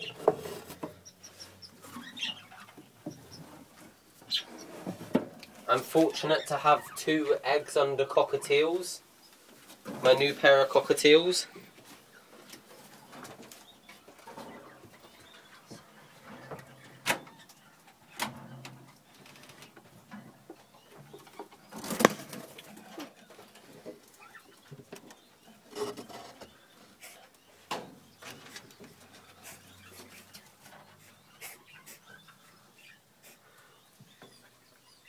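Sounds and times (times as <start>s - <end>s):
caged birds calling softly: 0.0s - 35.0s.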